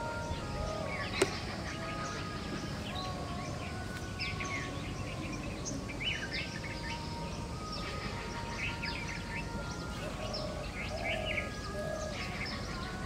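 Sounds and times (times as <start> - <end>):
birds chirping: 0.0 - 13.0
low background hiss: 0.0 - 13.0.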